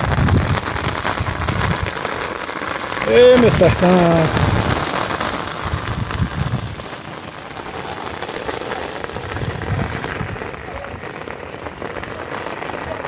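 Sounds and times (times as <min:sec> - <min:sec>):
rain pattering: 0:00.0 - 0:13.0
wind rumbling on microphone: 0:00.0 - 0:13.0.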